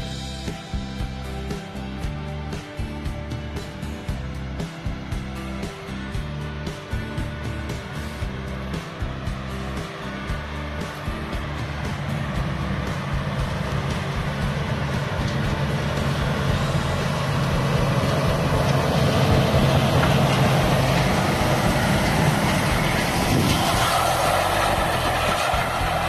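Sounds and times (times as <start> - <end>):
harrow and tyres rushing over ground: 0.0 - 26.0
tractor diesel engine under load: 0.0 - 26.0.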